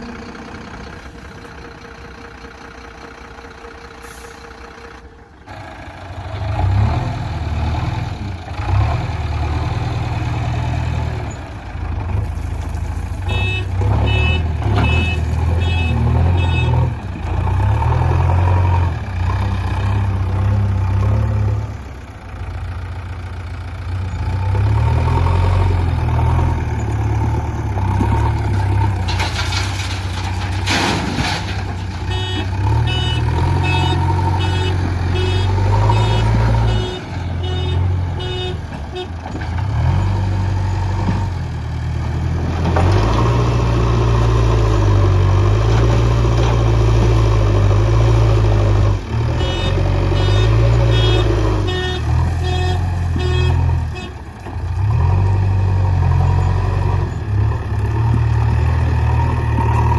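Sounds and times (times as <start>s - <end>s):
diesel engine droning under load: 0.0s - 59.9s.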